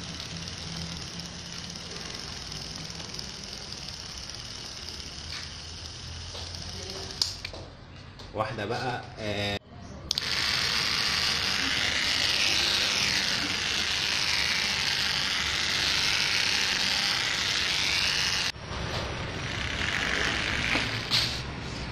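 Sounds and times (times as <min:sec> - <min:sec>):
small electric motor whirring: 0:00.0 - 0:07.6, 0:10.1 - 0:21.5.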